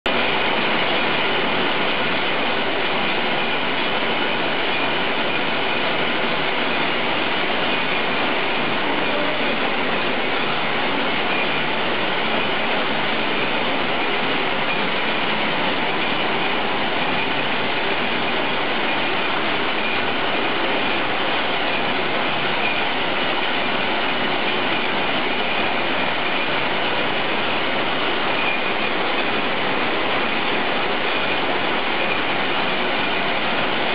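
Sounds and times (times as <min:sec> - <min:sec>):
power loom running: 0:00.1 - 0:33.9.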